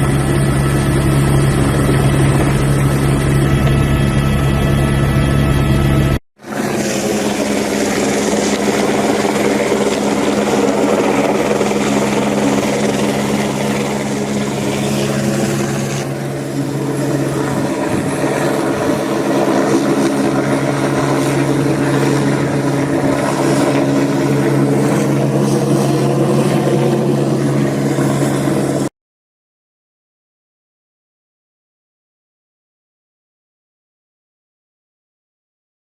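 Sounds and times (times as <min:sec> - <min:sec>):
helicopter rotor and engine drone: 0:00.0 - 0:28.9.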